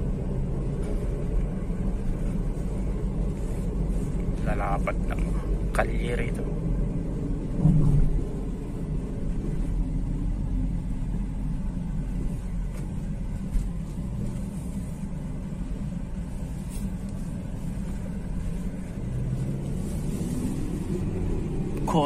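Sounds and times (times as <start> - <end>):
car driving rumble inside cabin: 0.0 - 22.0.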